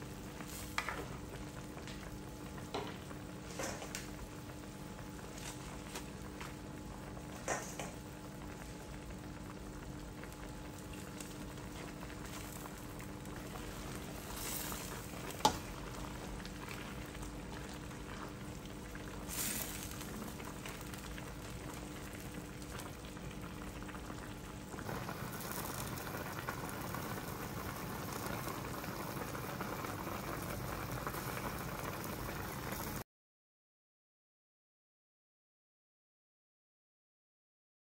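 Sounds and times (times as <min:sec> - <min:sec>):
broth boiling and bubbling: 0:00.0 - 0:33.0.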